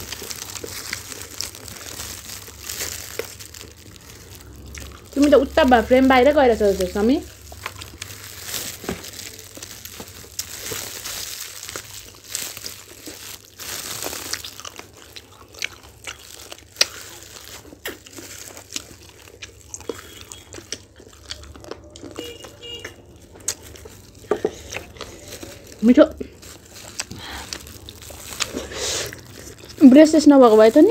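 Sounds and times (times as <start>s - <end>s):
biting and chewing: 0.0s - 30.9s
plastic gloves crinkling: 0.0s - 30.9s.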